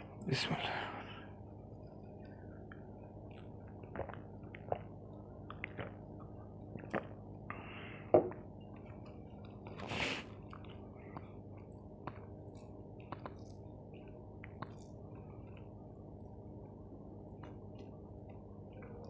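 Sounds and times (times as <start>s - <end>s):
wet chewing and squishing: 1.8s - 7.6s, 8.3s - 19.0s.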